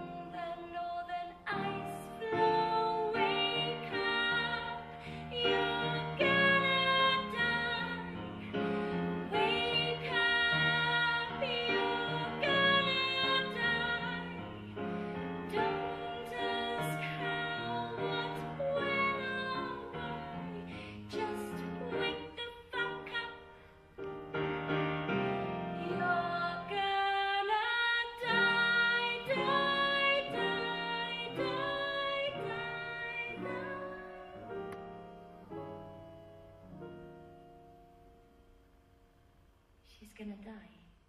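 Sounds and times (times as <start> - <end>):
musical accompaniment: 0.0 - 39.6.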